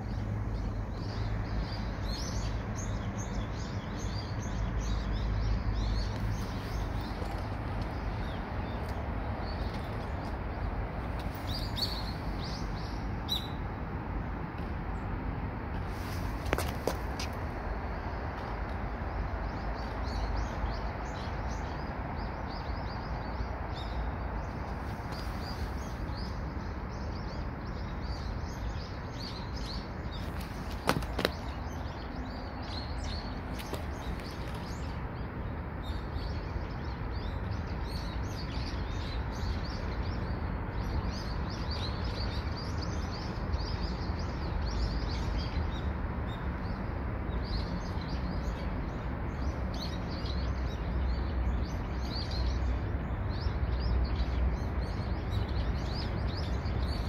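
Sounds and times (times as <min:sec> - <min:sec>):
small birds chirping: 0:00.0 - 0:13.6, 0:15.9 - 0:57.0.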